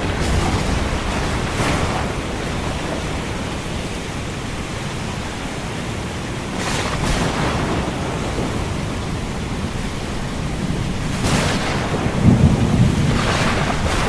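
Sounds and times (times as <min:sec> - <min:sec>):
ocean surf: 0:00.0 - 0:14.0
rain: 0:00.0 - 0:14.0.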